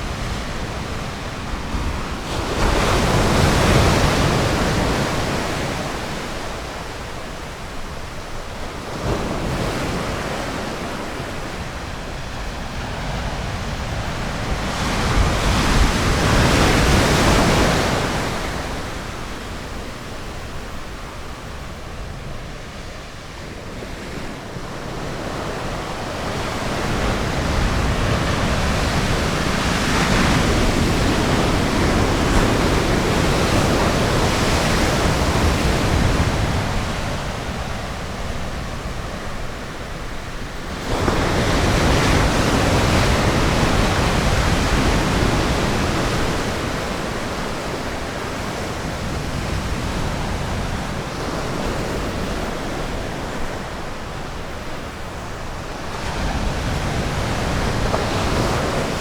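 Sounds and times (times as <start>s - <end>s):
ocean surf washing onto beach: 0.0s - 59.0s.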